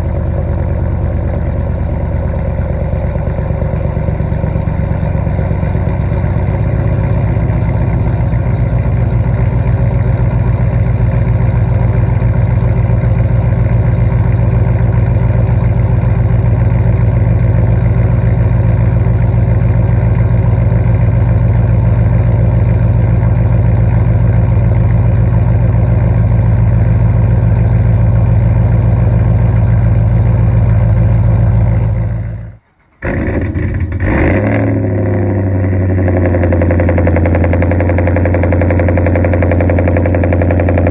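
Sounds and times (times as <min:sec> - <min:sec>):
loud truck engine idling: 0:00.0 - 0:40.9.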